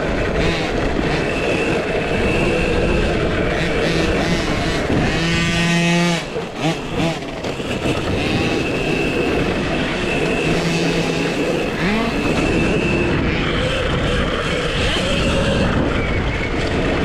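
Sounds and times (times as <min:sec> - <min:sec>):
electric motor whining: 0:00.0 - 0:17.0
ground noise: 0:00.0 - 0:17.0
rushing wind: 0:00.0 - 0:17.0.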